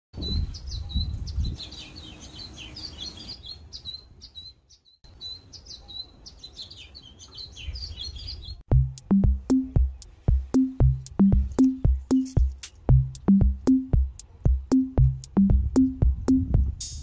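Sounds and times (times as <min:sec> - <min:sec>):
songbirds chirping: 0:00.2 - 0:16.5.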